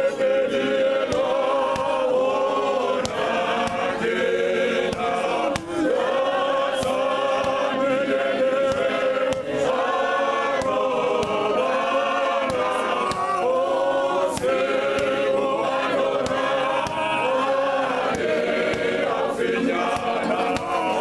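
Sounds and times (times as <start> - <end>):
male choir singing: 0.0 - 21.0
hand claps: 0.5 - 21.0.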